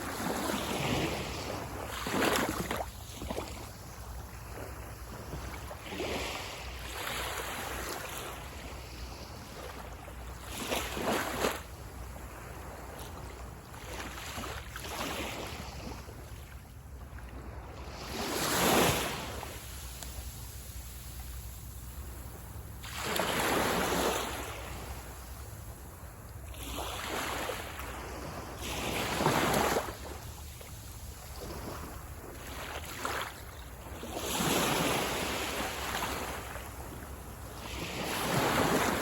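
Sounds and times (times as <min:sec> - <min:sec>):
sea waves breaking on beach: 0:00.0 - 0:39.0.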